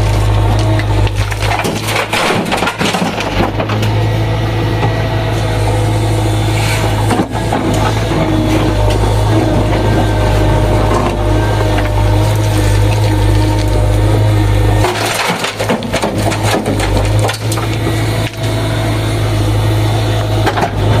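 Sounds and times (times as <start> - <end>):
diesel engine running: 0.0 - 21.0
digging crunching and cracking: 0.0 - 21.0.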